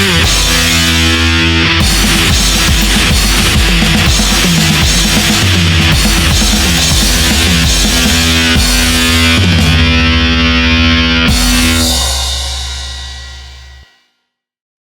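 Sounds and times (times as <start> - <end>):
heavy rock instrumental: 0.0 - 13.9.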